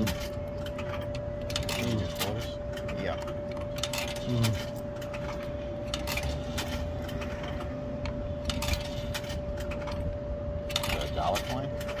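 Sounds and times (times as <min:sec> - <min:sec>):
coins clinking in a coin slot: 0:00.0 - 0:07.7, 0:08.4 - 0:12.0.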